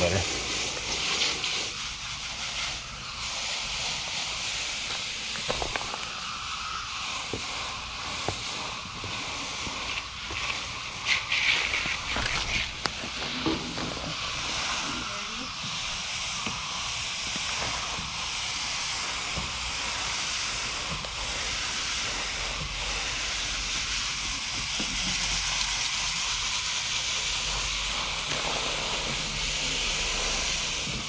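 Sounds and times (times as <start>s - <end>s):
hose spraying water: 0.0s - 31.0s.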